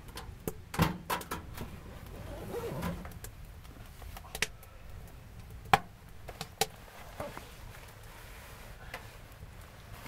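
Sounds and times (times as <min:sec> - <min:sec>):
wood fire cracking in stove: 0:00.0 - 0:10.0.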